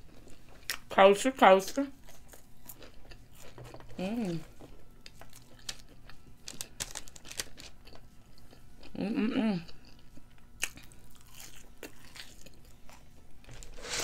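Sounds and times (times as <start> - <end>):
person chewing food: 0.0 - 0.9, 2.0 - 9.0, 9.6 - 13.3.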